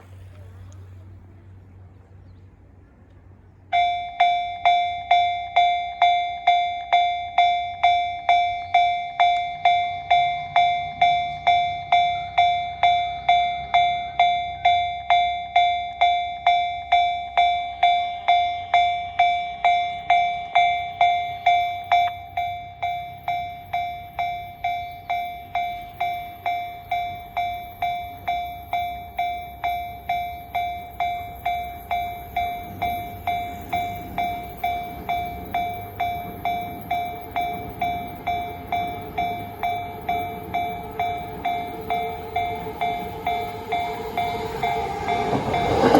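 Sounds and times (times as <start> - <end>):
level crossing bell clanging: 3.8 - 45.9.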